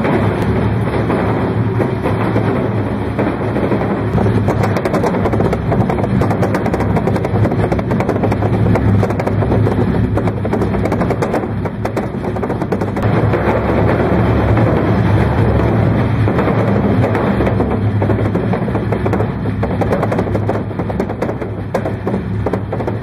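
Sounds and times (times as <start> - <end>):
low machine hum: 0.0 - 23.0
wooden pallets rattling on steel: 0.0 - 23.0.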